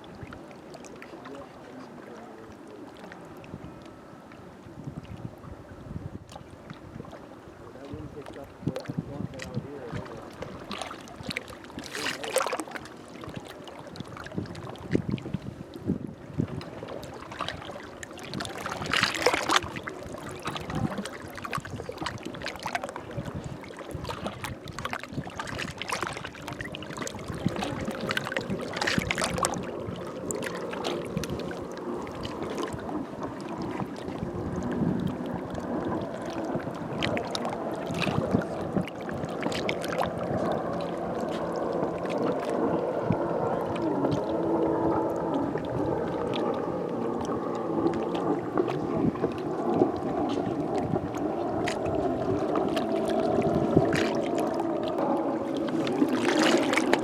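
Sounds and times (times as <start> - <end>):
motorboat engine hum: 0.0 - 57.0
waves lapping against rocks: 0.0 - 57.0.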